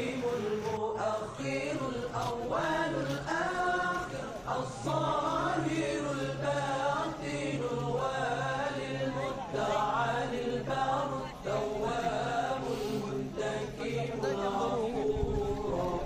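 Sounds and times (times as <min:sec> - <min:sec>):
melodic vocal chanting: 0:00.0 - 0:16.0.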